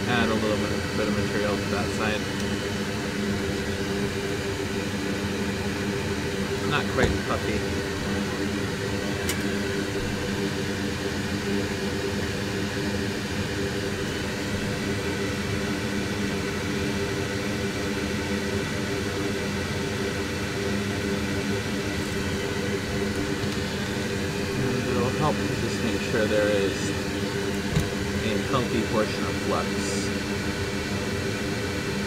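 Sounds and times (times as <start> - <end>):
electric fan whirring: 0.0 - 32.0.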